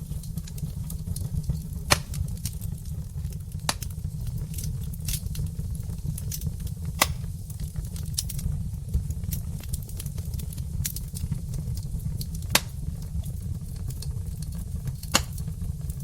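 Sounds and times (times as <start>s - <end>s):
loud pops from fire: 0.0s - 16.0s
low rumble of burning logs: 0.0s - 16.0s
wood fire crackling: 0.0s - 16.0s.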